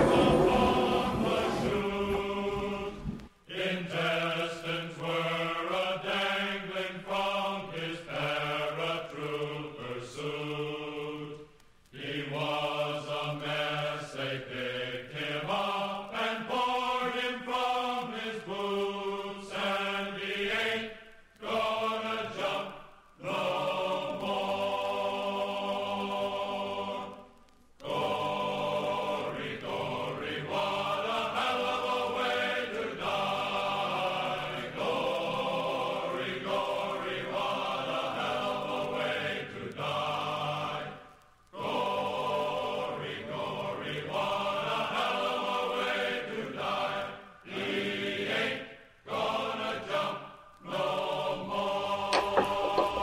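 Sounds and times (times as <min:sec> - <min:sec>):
slow choral chant music: 0:00.0 - 0:53.0.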